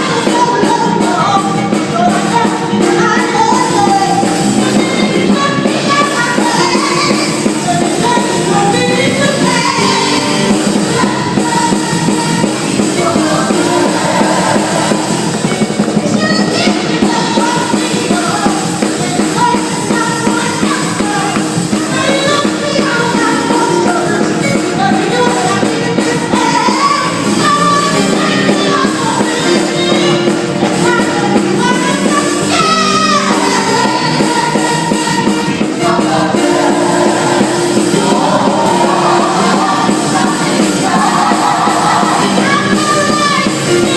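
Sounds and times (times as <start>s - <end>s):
drums: 0.0s - 43.9s
gospel group performing: 0.0s - 43.9s
lead singer singing: 0.0s - 43.9s.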